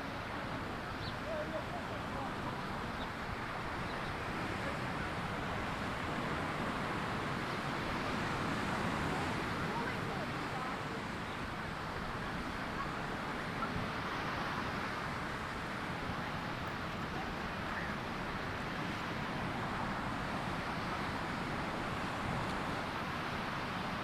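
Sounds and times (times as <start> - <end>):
ocean surf on sandy beach: 0.0 - 24.0
wind: 0.0 - 24.0.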